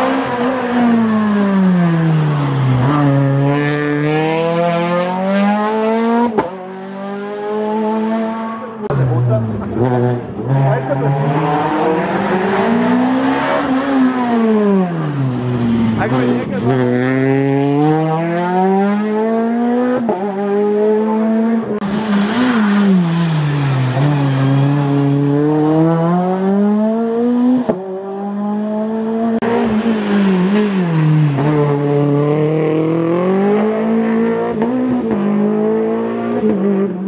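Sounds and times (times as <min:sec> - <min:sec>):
rally car engines revving through gears: 0:00.0 - 0:37.0.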